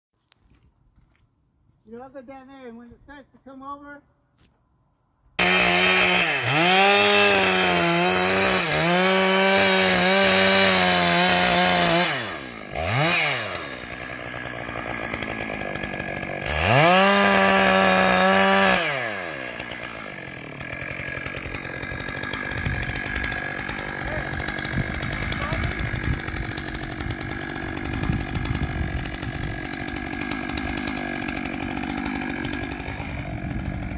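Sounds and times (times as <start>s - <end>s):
chainsaw revving and idling: 5.4s - 33.9s.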